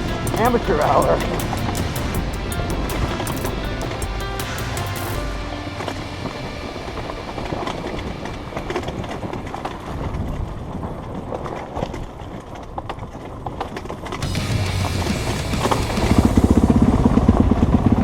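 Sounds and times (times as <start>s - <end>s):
dirt bike engine: 0.0s - 11.5s, 14.2s - 18.0s.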